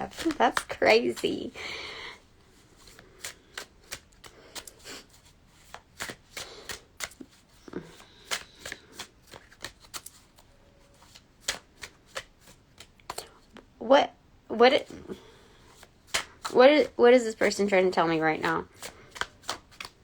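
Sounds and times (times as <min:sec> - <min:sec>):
cards being shuffled: 0:00.0 - 0:13.7, 0:14.8 - 0:20.0.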